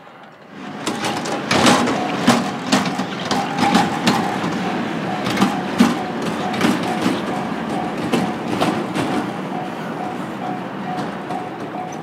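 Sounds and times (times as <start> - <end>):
level crossing warning bell: 0.6 - 12.0.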